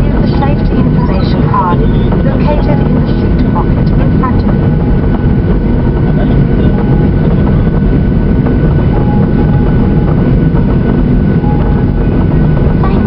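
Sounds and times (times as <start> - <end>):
aircraft rolling rumble: 0.0 - 13.0
jet engines at low power: 0.0 - 13.0.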